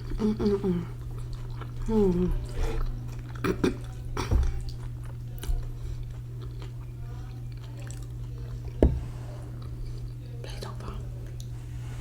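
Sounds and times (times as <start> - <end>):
chewing noodles: 0.0 - 11.6
steady low hum: 0.0 - 12.0.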